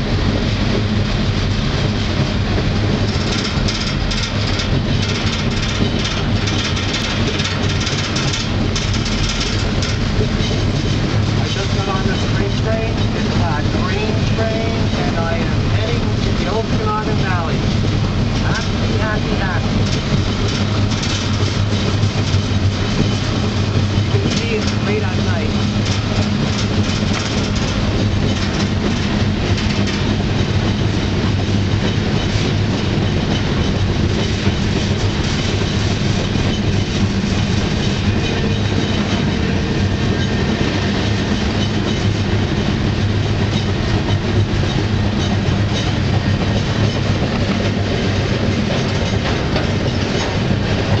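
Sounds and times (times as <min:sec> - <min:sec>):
train rumble: 0:00.0 - 0:51.0
train wheels clicking on rails: 0:00.0 - 0:51.0.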